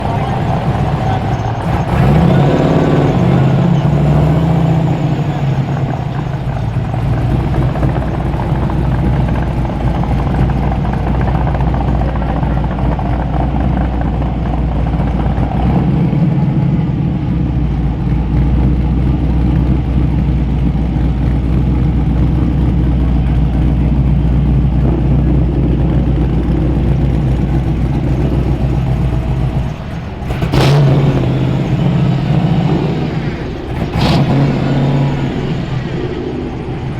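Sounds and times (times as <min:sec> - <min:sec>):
car engine revving and rumbling: 0:00.0 - 0:36.9.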